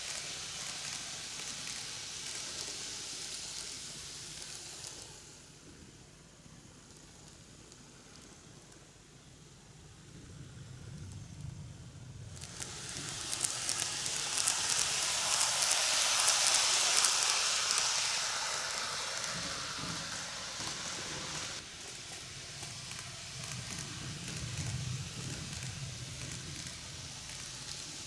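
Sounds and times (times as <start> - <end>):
wheels rushing on rail: 0.0 - 5.3, 10.1 - 28.0.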